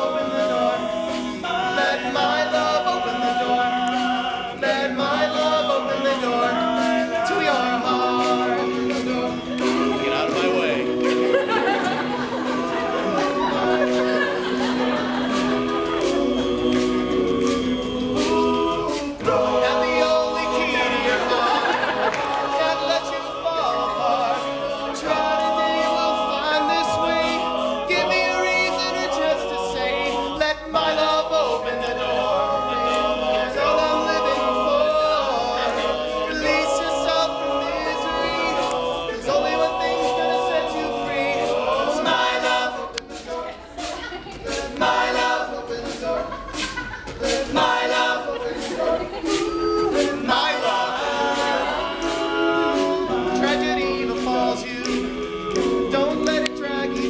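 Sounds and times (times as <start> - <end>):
male a cappella group singing: 0.0 - 57.0.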